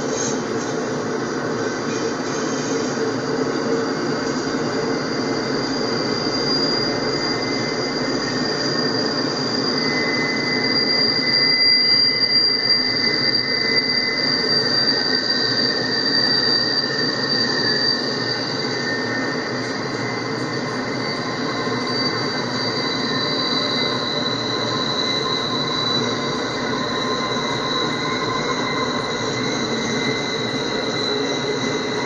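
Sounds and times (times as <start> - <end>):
high wheel squeal: 0.0 - 32.0
train rolling rumble: 0.0 - 32.0.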